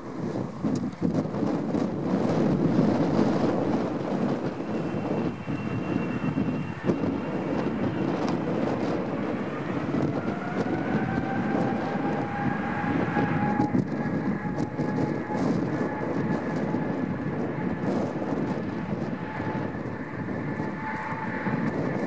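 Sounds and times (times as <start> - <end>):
engine whine: 0.0 - 22.0
jet engines rumbling: 0.0 - 22.0.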